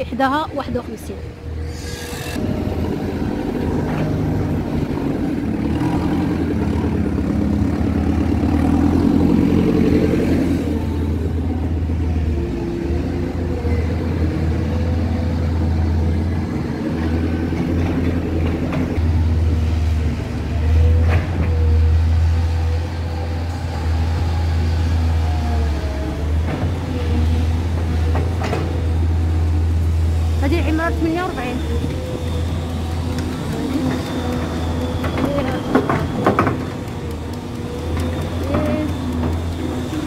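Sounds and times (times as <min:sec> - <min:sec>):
heavy machinery diesel engines: 0:00.0 - 0:40.0.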